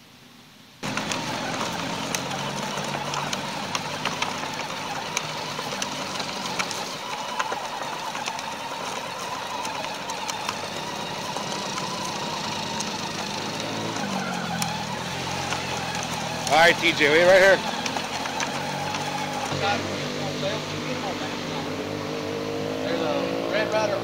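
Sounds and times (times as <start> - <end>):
gravel crunching: 0.8 - 24.0
toy kart motor whirring: 0.8 - 24.0.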